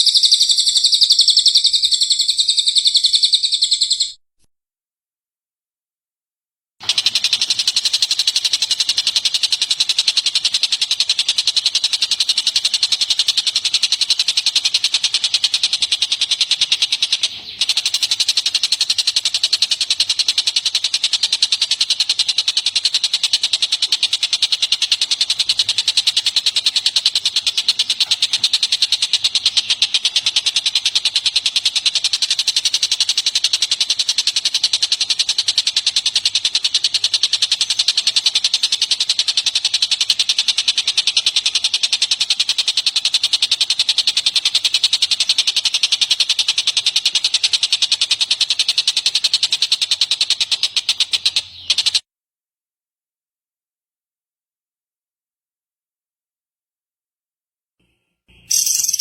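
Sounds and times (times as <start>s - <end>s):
songbird fast high-pitched trill: 0.0s - 4.2s, 6.8s - 52.0s, 58.4s - 59.0s.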